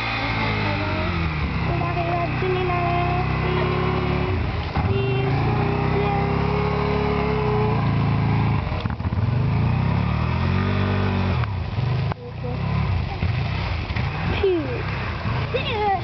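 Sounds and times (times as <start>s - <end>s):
engine revving under throttle: 0.0s - 16.0s.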